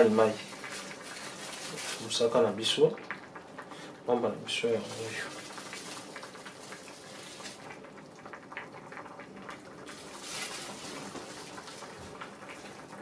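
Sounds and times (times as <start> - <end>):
sauce simmering and bubbling: 0.0 - 13.0.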